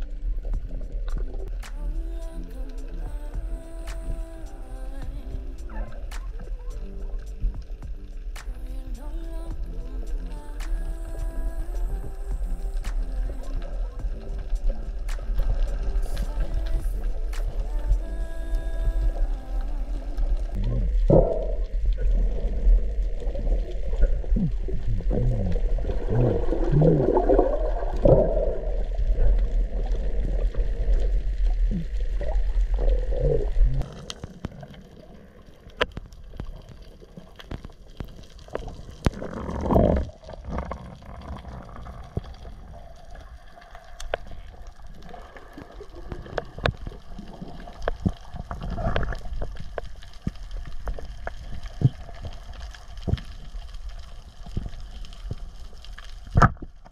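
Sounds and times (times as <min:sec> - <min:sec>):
low underwater rumble: 0:00.0 - 0:56.9
underwater clicks: 0:00.0 - 0:56.9.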